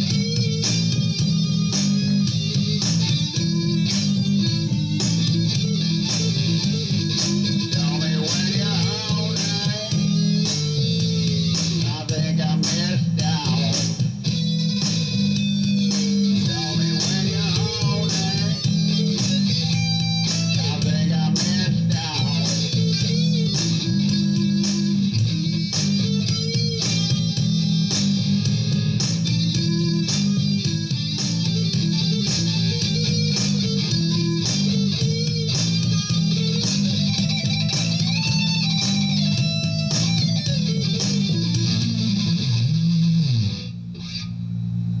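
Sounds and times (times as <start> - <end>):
bass and drums: 0.0 - 44.0
electric guitar lead: 0.0 - 44.5.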